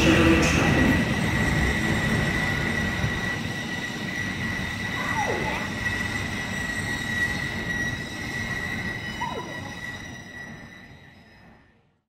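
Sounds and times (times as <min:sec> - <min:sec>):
train rumble with whine: 0:00.0 - 0:12.0.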